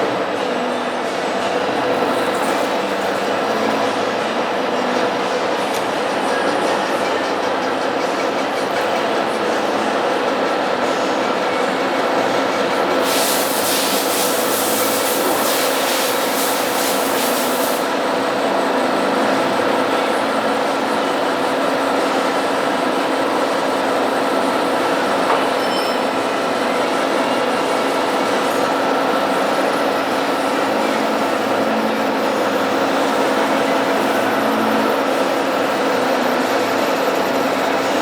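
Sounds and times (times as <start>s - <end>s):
lathe gearbox whine: 0.0s - 38.0s.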